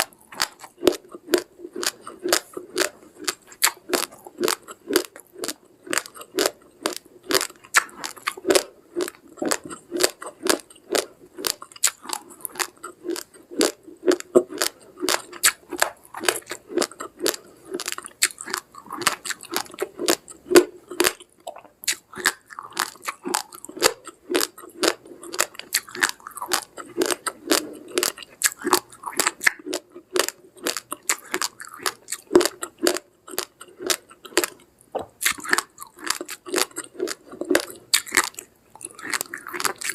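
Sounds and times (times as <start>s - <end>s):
teeth crunching uncooked rice: 0.0s - 39.9s.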